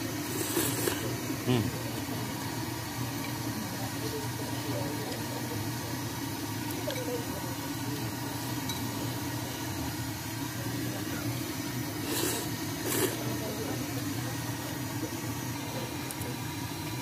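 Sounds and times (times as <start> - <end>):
street background hum: 0.0 - 17.0.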